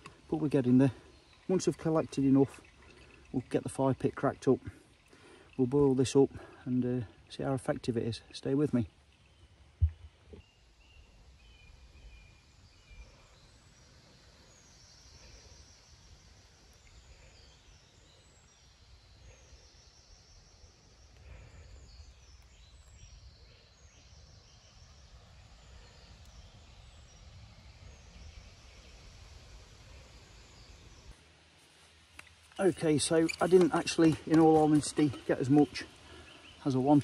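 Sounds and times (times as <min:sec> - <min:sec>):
songbird chirping: 0:00.0 - 0:37.0.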